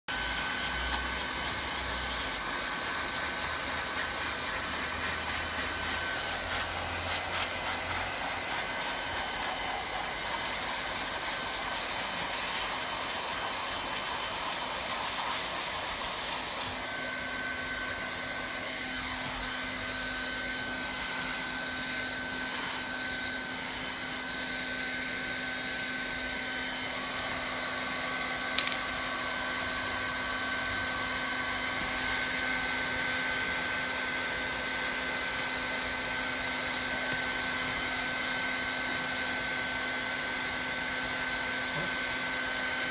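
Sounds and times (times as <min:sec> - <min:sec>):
hot-air welding gun hiss and whine: 0:00.1 - 0:42.9.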